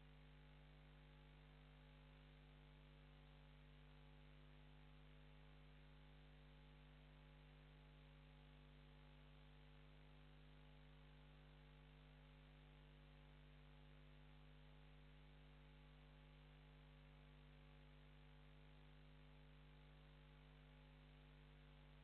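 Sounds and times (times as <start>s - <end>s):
faint mains hum: 0.0s - 22.0s.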